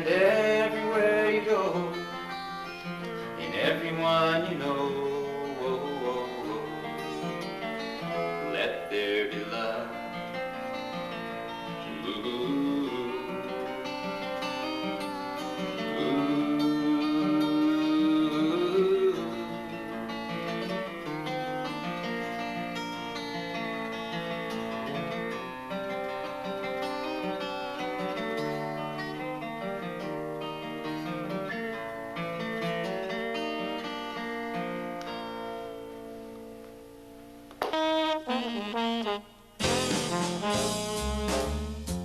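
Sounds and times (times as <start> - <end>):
acoustic guitar folk song: 0.0 - 42.0.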